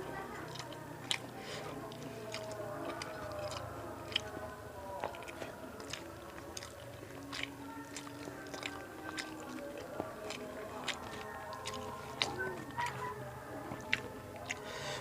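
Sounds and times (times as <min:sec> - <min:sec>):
close-up chewing: 0:00.0 - 0:15.0.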